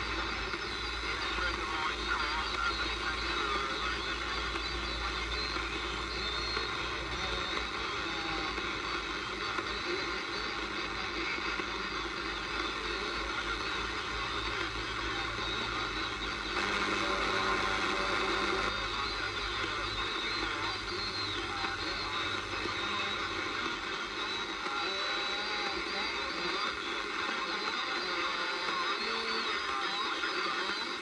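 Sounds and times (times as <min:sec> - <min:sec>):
radio static and hiss: 0:00.0 - 0:31.0.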